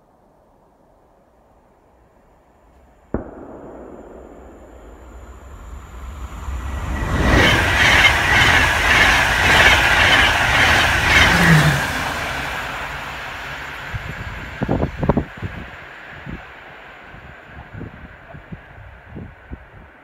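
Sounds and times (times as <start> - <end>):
train passing at speed: 3.2 - 19.8.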